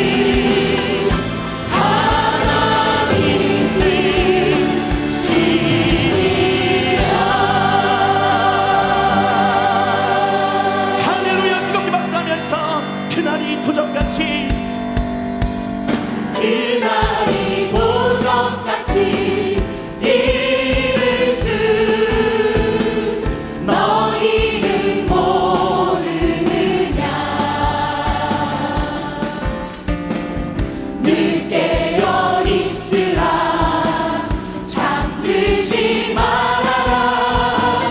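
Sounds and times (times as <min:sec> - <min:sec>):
band accompaniment: 0:00.0 - 0:37.9
congregation and choir singing hymn: 0:00.0 - 0:37.9
steady drum beat: 0:00.0 - 0:37.9.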